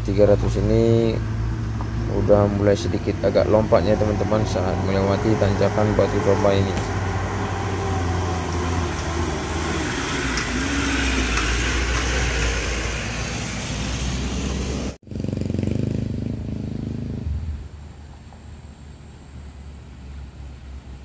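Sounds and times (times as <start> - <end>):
low steady engine hum: 0.0 - 15.0, 16.4 - 21.0
diesel engine labouring uphill: 0.0 - 21.0.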